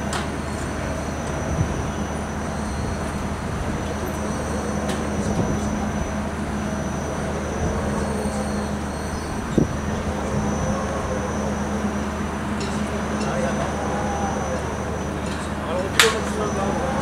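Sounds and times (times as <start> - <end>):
ride machine drone: 0.0 - 17.0.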